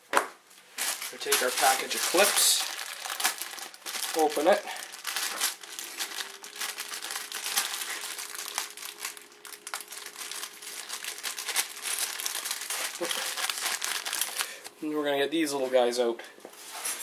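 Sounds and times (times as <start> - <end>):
package crinkling: 0.6 - 14.8.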